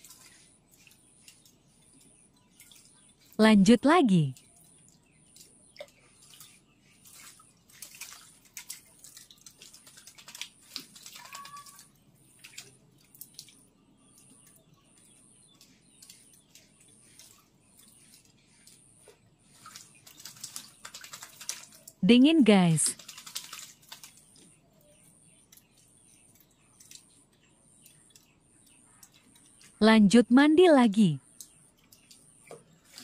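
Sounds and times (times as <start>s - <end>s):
bird splashing in water: 0.0s - 3.4s, 4.4s - 24.8s, 25.5s - 29.7s.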